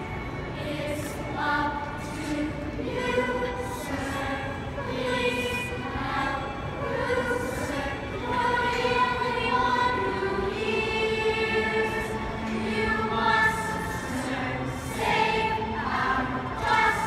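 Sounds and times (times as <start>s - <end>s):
youth choir singing: 0.0s - 17.0s.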